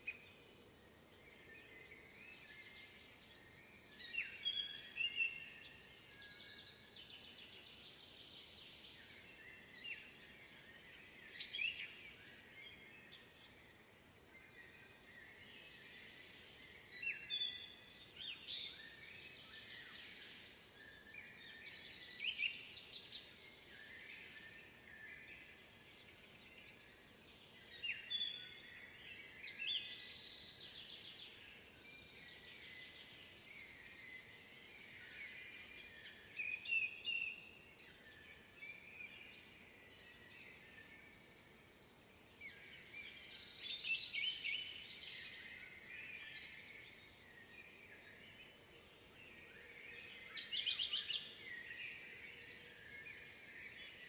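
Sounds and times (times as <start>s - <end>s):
birds chirping softly: 0.0s - 54.0s
songbird song phrases: 0.0s - 54.0s.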